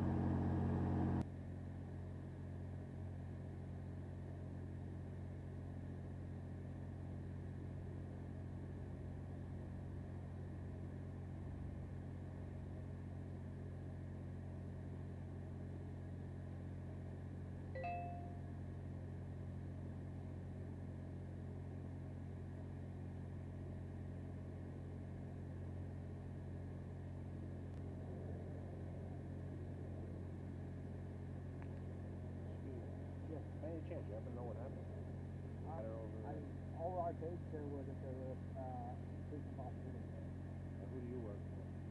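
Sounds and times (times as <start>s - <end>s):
engine idling: 0.0s - 18.3s, 19.3s - 41.9s.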